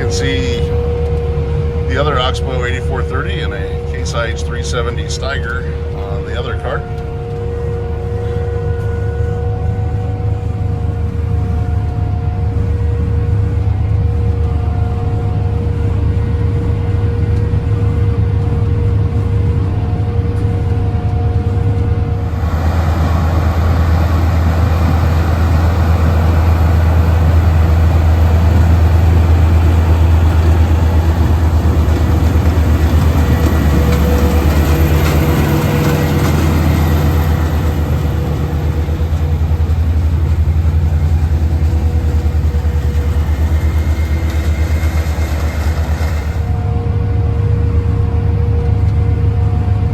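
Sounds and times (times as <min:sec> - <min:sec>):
harvester engine drone: 0:00.0 - 0:49.9
higher hum: 0:00.0 - 0:49.9.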